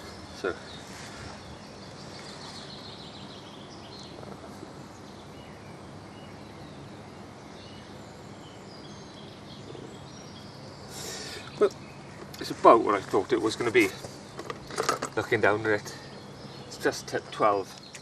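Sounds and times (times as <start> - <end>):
bird chirps: 0.0 - 18.0
outdoor background noise: 0.0 - 18.0.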